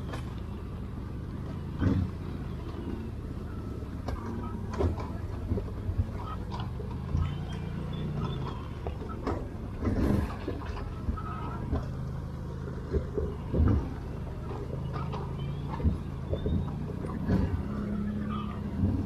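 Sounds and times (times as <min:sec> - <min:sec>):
quad engine running: 0:00.0 - 0:19.0.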